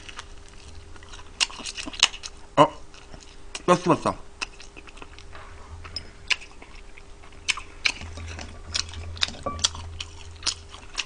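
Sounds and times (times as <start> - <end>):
person chewing crunchy food: 0.0 - 3.7, 4.4 - 5.3, 6.2 - 11.0
faint low hum: 0.0 - 11.0.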